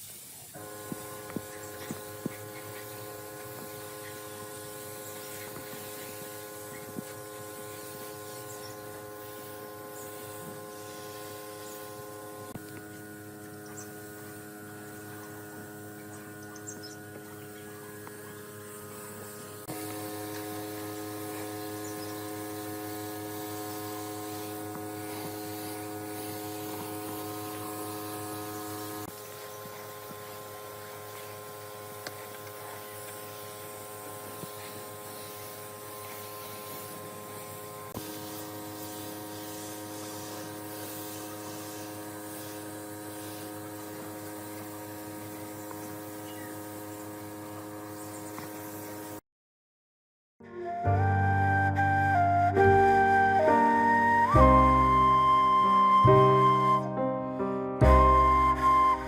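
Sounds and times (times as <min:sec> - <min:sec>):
electric motor hum: 0:00.4 - 0:49.2, 0:50.6 - 0:56.8, 0:57.8 - 0:59.0.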